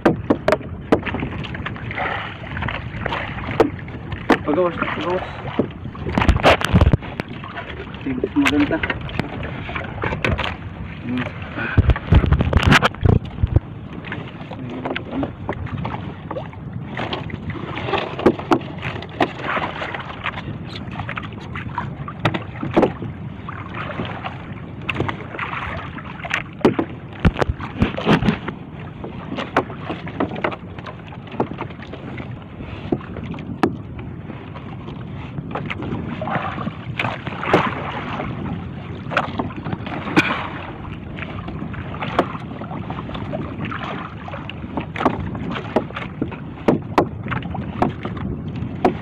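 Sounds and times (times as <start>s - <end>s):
water splashing: 0.0s - 49.0s
wind on microphone: 0.0s - 49.0s.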